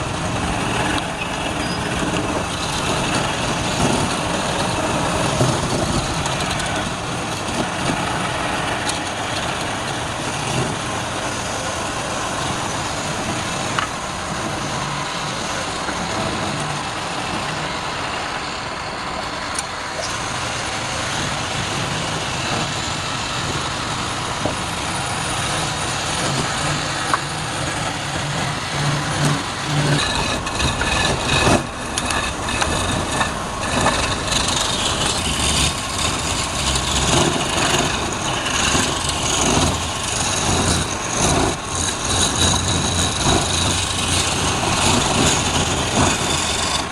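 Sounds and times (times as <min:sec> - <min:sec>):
wood lathe running: 0:00.0 - 0:46.9.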